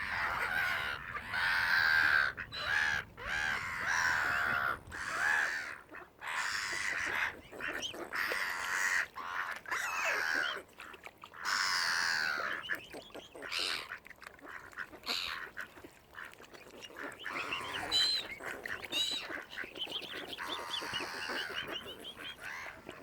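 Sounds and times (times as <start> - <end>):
waterbirds calling: 0.0 - 23.0.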